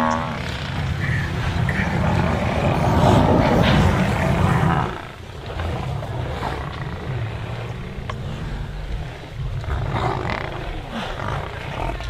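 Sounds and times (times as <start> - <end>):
lion growling: 0.0 - 12.0.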